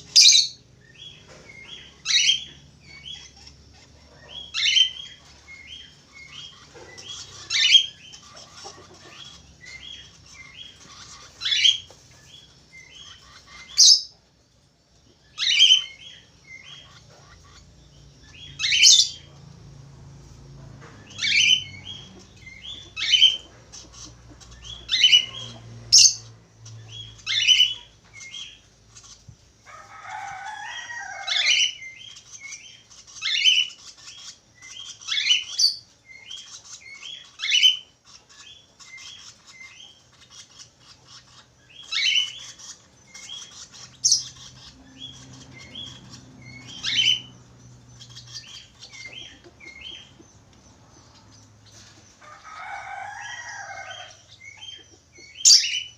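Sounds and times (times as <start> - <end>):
budgerigar chirping: 0.0 - 14.2, 15.3 - 19.4, 21.0 - 29.2, 31.2 - 51.2, 52.2 - 55.9
budgerigar twittering chatter: 0.0 - 14.2, 15.3 - 19.5, 20.9 - 29.3, 30.0 - 55.9.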